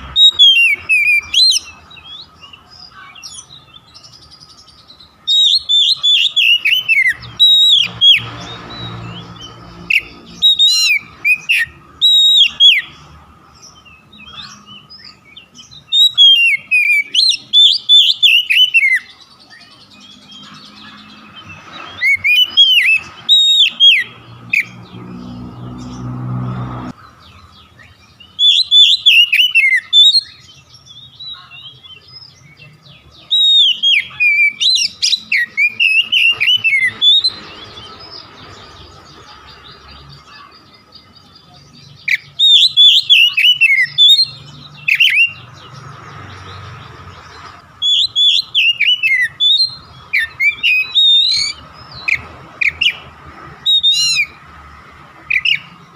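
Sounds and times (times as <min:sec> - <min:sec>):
bird singing chirps and whistles: 0:00.0 - 0:13.0, 0:13.6 - 0:26.2, 0:27.2 - 0:45.7, 0:47.8 - 0:54.4, 0:55.3 - 0:55.8.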